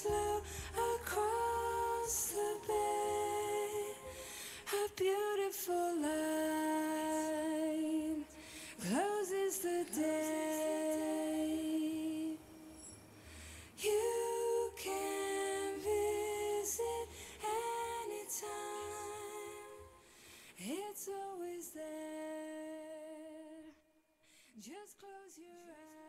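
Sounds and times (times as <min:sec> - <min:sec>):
woman singing slow melody: 0:00.0 - 0:13.1, 0:13.7 - 0:23.7, 0:24.6 - 0:26.0.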